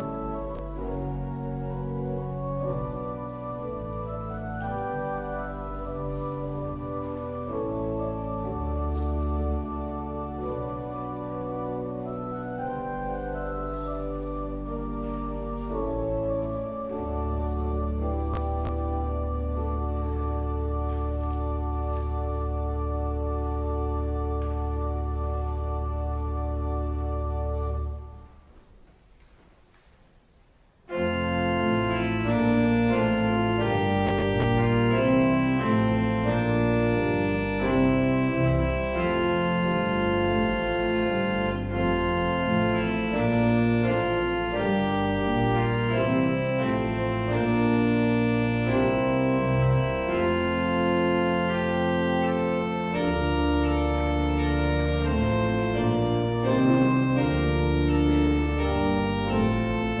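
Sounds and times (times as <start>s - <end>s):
pipe organ chords: 0.0s - 28.8s, 30.8s - 60.0s.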